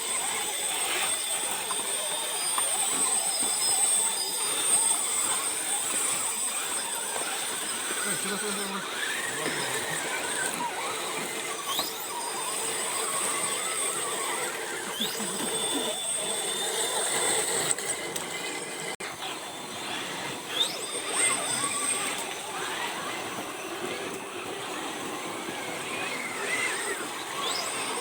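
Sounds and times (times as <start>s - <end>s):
electric motor whining: 0.0s - 28.0s.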